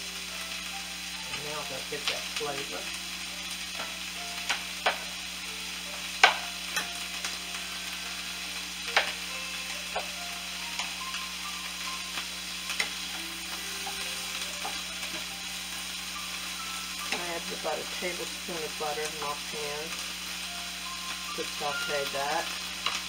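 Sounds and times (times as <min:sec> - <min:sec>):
vegetables sizzling in a frying pan: 0:00.0 - 0:23.0.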